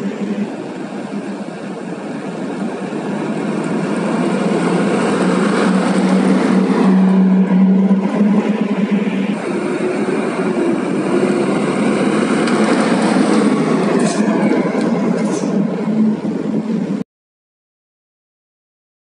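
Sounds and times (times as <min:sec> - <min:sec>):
dump truck driving past: 0:00.0 - 0:17.0
tyre and road noise: 0:00.0 - 0:17.0.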